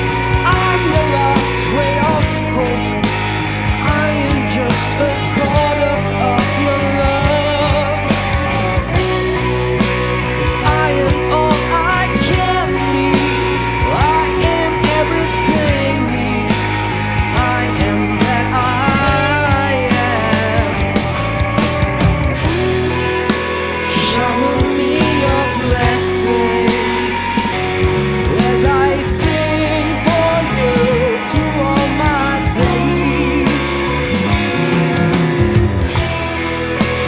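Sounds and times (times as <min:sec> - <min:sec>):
drums: 0:00.0 - 0:37.0
lead guitar with bending pitch: 0:00.0 - 0:37.0
rock band playing live: 0:00.0 - 0:37.0
sustained bass: 0:00.0 - 0:37.0.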